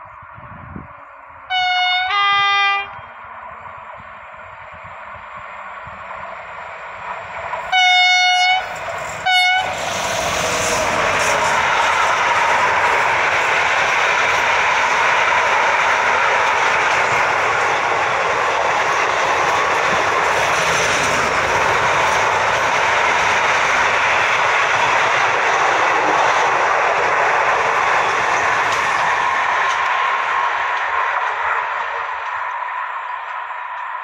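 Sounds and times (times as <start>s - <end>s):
train wheels on rails: 0.0s - 34.0s.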